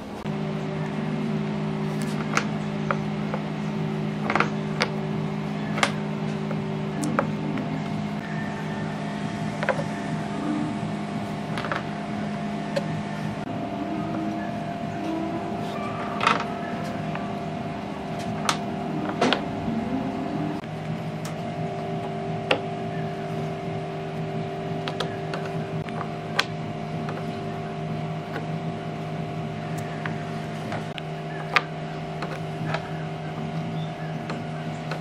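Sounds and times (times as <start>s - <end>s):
machine motor humming: 0.0s - 35.0s.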